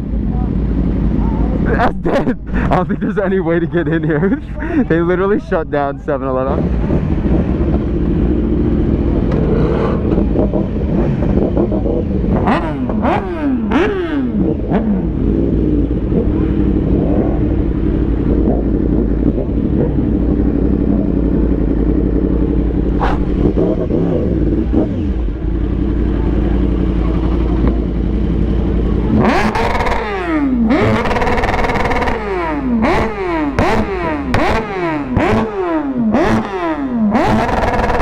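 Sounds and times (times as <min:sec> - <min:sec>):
motorcycle engines running: 0:00.0 - 0:38.0
motorcycle engine revving: 0:06.3 - 0:38.0.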